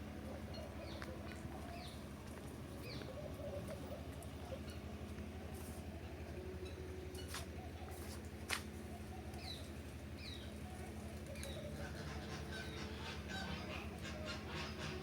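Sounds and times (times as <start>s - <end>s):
birds chirping: 0.0s - 7.9s, 8.7s - 15.0s
steady low hum: 0.0s - 15.0s.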